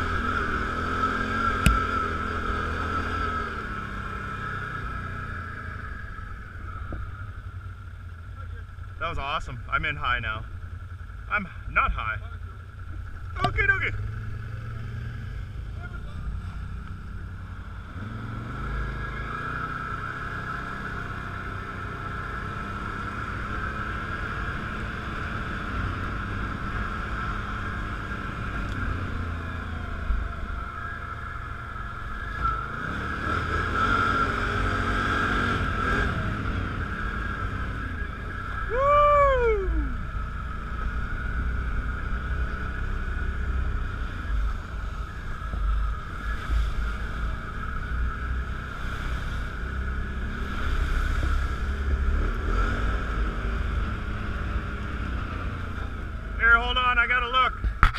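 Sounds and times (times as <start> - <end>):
atv engine rumble and whine: 0.0 - 57.9.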